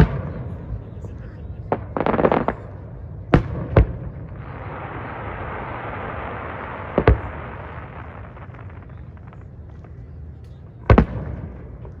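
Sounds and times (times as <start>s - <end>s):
fireworks bursting bangs: 0.0s - 0.9s, 1.6s - 10.1s, 10.8s - 12.0s.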